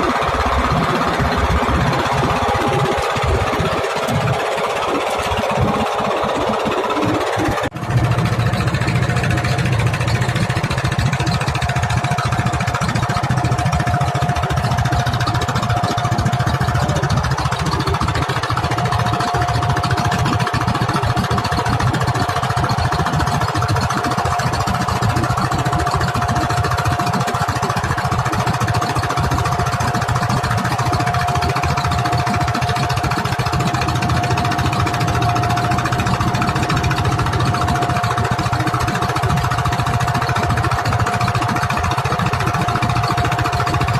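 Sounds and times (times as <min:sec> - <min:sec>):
boat engine running: 0:00.0 - 0:43.9
steady whining tone: 0:00.0 - 0:43.9.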